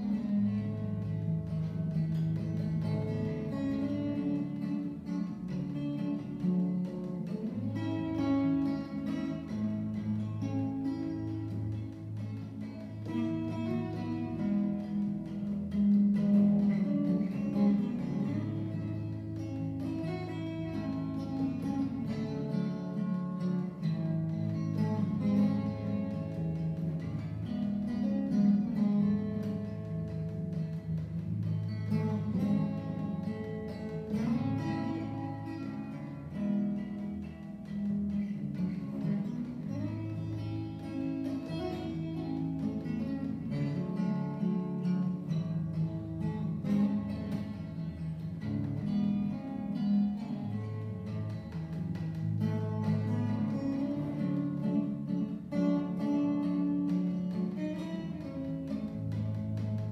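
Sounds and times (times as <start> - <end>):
fingerpicked acoustic guitar: 0.0 - 59.9.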